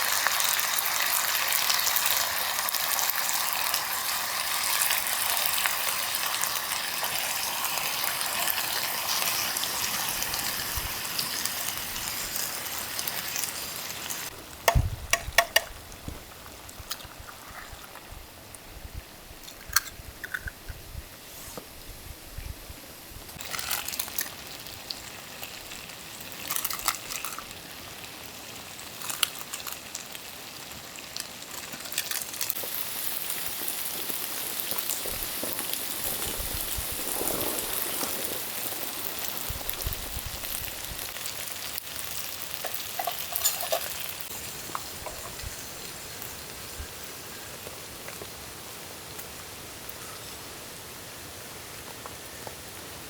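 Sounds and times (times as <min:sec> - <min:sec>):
noodles sizzling on a griddle: 0:00.0 - 0:17.3, 0:22.8 - 0:53.0.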